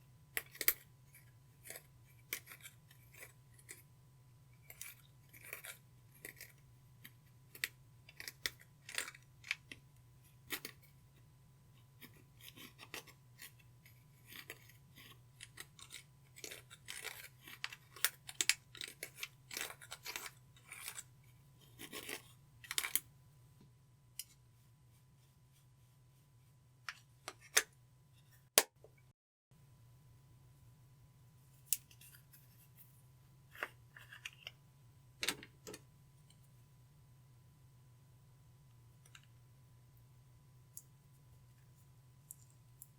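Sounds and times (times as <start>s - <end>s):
faint low hum: 0.0s - 42.9s.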